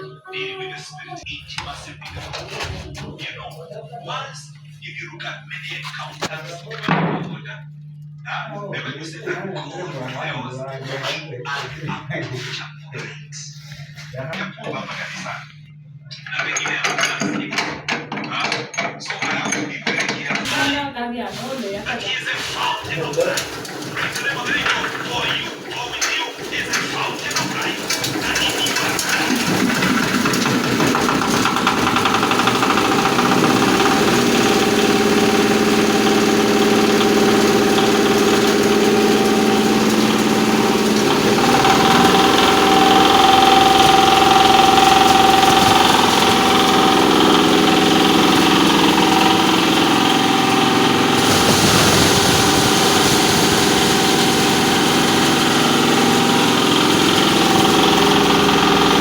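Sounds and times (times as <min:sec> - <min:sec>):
grinding mill machinery humming: 0:00.0 - 0:15.6, 0:20.5 - 0:59.0.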